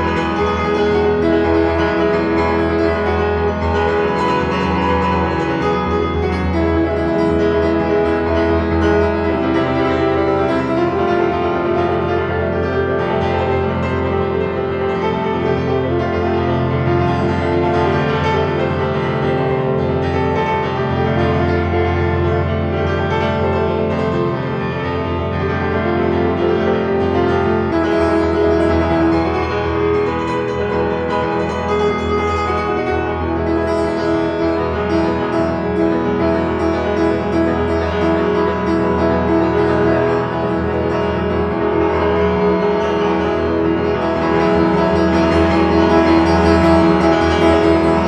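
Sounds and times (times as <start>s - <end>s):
piano chords: 0.0s - 48.0s.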